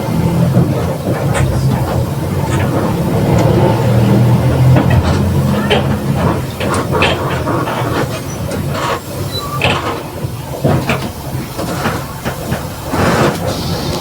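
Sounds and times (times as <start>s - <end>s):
bus engine hum: 0.0s - 14.0s
body rattles and knocks: 0.2s - 13.4s.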